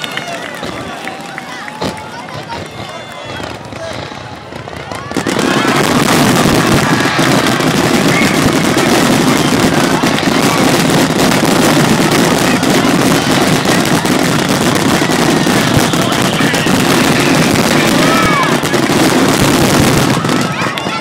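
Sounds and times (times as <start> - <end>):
fireworks bursting in barrage: 0.0 - 21.0.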